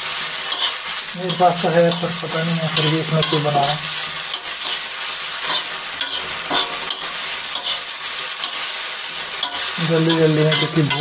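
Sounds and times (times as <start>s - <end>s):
onions sizzling in a pan: 0.0s - 11.0s
steel spoon scraping a pan: 0.1s - 11.0s.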